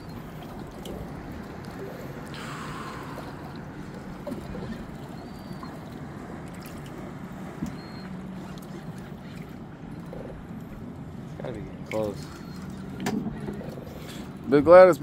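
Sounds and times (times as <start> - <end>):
boat engine running: 0.0 - 15.0
water sloshing against hull: 0.0 - 15.0.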